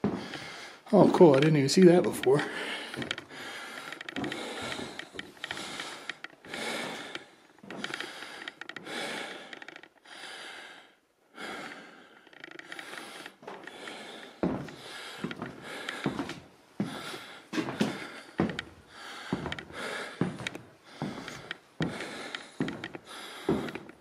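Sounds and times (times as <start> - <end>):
person breathing heavily: 0.0 - 1.3, 2.0 - 24.0.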